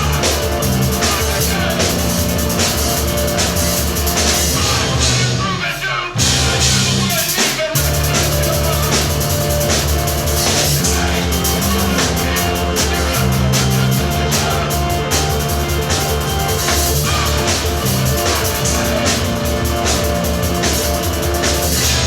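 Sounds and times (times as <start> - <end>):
keyboards low sustained notes: 0.0 - 5.4, 7.8 - 22.0
drum kit with double kick drums: 0.0 - 22.0.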